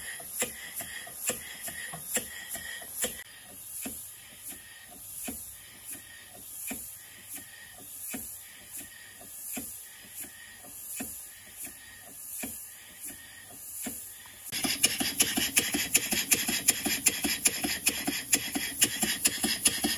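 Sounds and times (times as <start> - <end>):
exhaust steam hissing: 0.0 - 19.9
toy steam engine knocking: 0.0 - 19.9.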